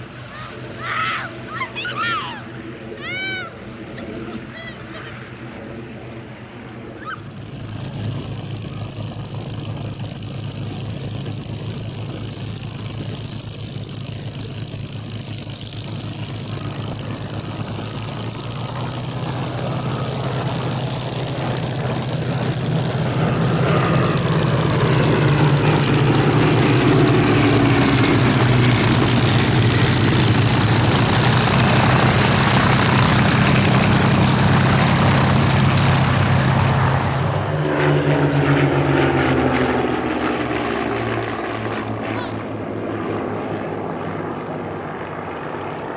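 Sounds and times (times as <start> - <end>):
propeller aircraft engine running: 0.0 - 45.9.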